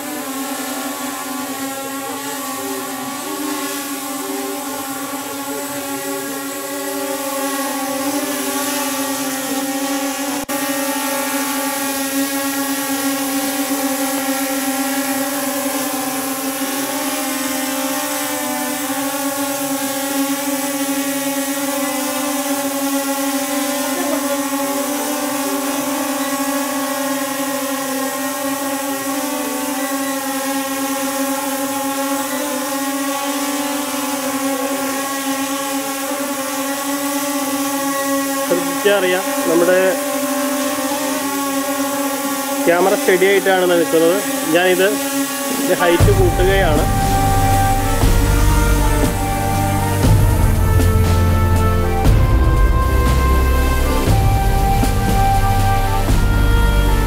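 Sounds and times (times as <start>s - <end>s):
quadcopter buzzing hum: 0.0s - 57.0s.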